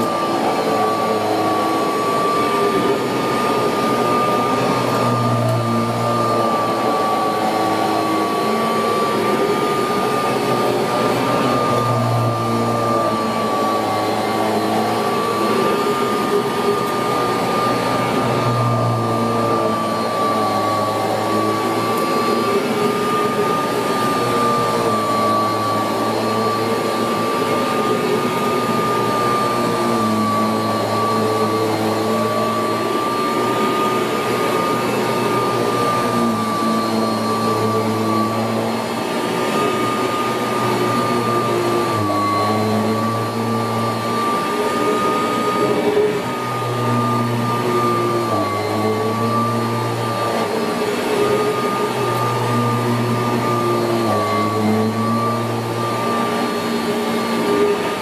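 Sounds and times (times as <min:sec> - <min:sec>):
upright vacuum cleaner running: 0:00.0 - 0:58.0.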